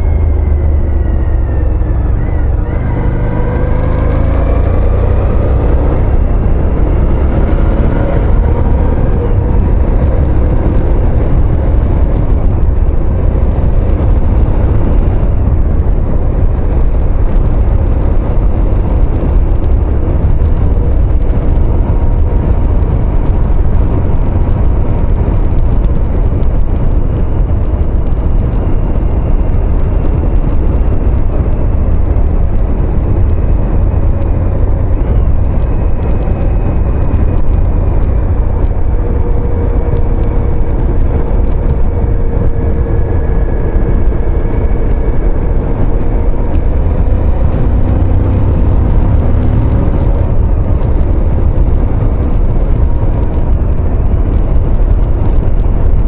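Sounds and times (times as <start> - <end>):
motorcycle engine and tyres droning: 0.0 - 56.0
wind rumbling on microphone: 0.0 - 56.0.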